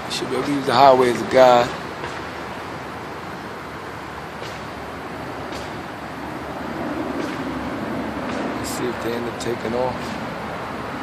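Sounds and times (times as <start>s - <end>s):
highway traffic noise: 0.0s - 11.0s.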